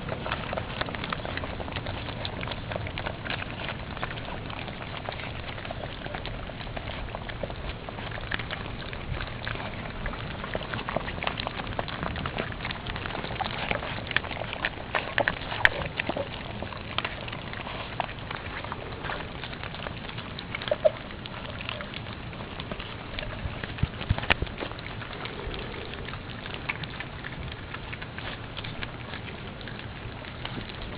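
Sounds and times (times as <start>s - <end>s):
small irregular clicks and taps: 0.0s - 30.9s.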